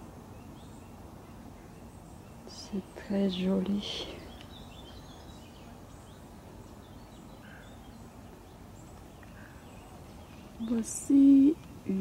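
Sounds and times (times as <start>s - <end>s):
faint bird chirps: 0.3s - 12.0s.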